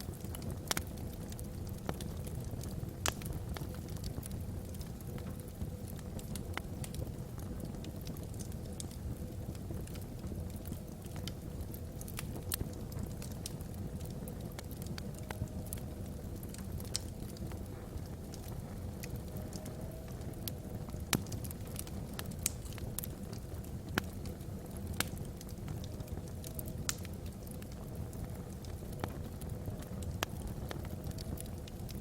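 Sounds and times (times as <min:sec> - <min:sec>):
fire rumbling: 0:00.0 - 0:32.0
logs crackling and popping: 0:00.0 - 0:32.0.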